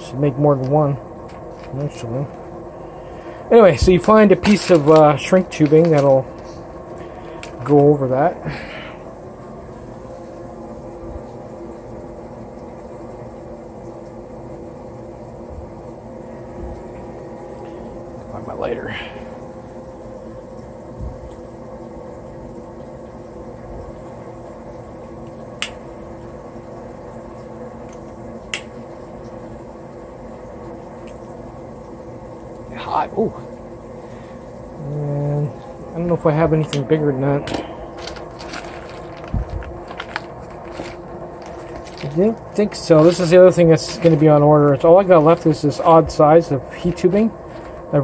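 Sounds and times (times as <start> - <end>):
fan humming: 0.0 - 48.0
laundry machine running: 0.0 - 48.0.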